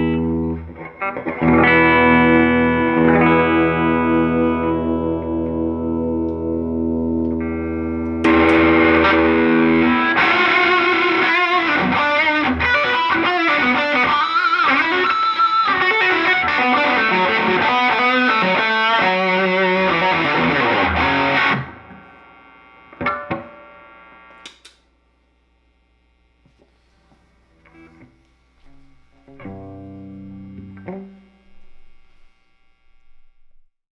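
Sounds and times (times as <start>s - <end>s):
distorted electric guitar: 0.0s - 24.8s, 25.5s - 33.7s.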